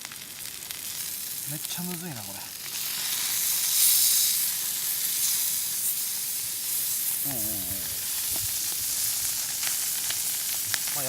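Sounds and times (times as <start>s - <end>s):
fish sizzling: 0.0s - 11.0s.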